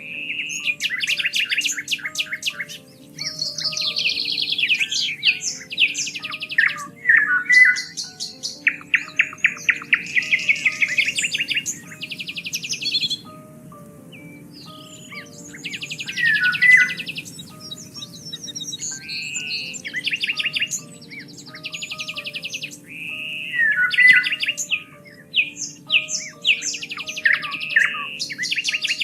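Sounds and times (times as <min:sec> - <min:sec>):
soft music of held notes: 0:00.0 - 0:29.0
songbirds singing: 0:00.0 - 0:29.0.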